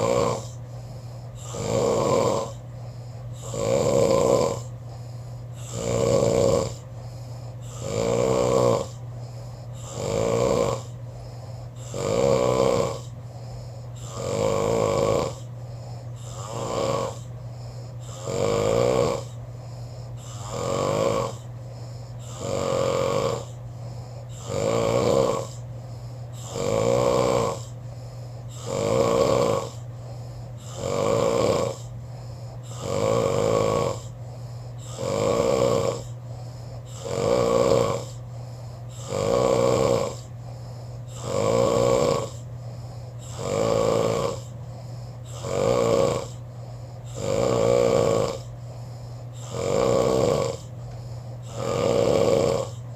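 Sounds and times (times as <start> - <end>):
person snoring: 0.0 - 52.9
steady low hum: 0.0 - 52.9.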